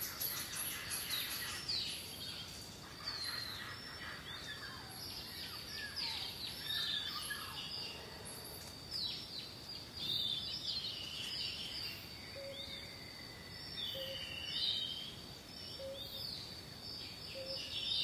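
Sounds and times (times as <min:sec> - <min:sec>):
birds chirping and trilling: 0:00.0 - 0:18.0
steady hiss: 0:00.0 - 0:18.0.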